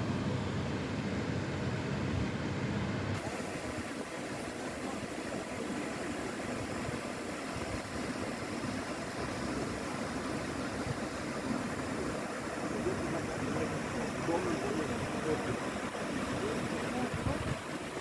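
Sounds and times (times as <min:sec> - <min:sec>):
fountain jets splashing: 0:03.2 - 0:18.0.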